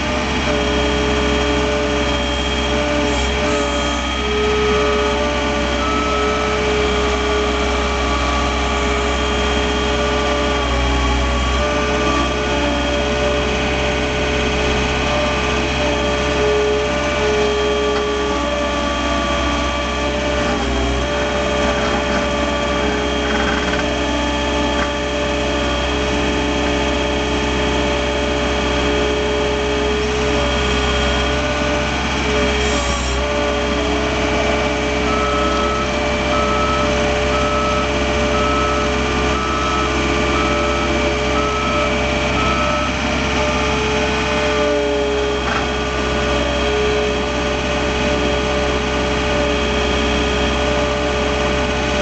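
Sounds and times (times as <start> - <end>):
loader engine rumbling with whine: 0.0 - 52.0.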